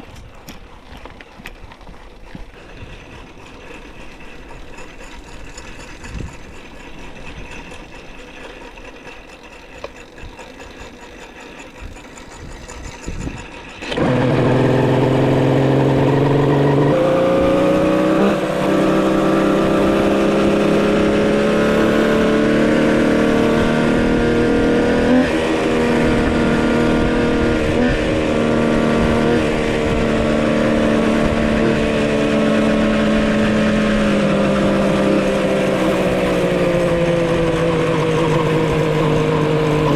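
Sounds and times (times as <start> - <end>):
fast mechanical ticking: 0.0 - 39.9
two-stroke engine running: 0.0 - 39.9.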